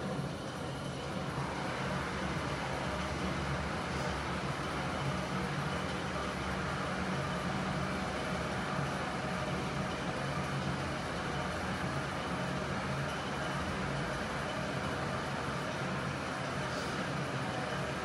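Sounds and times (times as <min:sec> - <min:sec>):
elliptical trainer whirring: 0:00.0 - 0:18.0.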